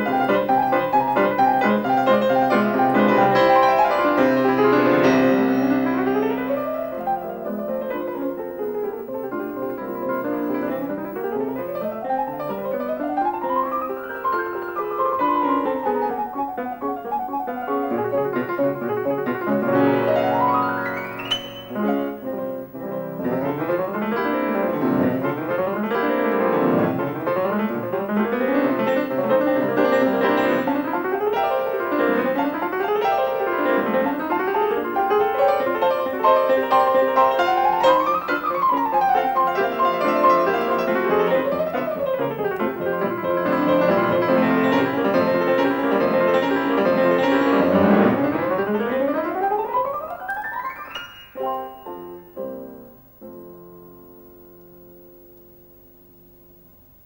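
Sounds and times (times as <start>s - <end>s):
fast classical piano piece: 0.0s - 55.3s.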